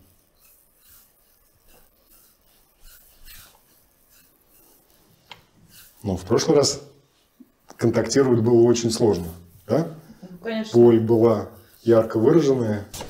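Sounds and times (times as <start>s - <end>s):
hands rubbing skin: 0.1s - 13.0s.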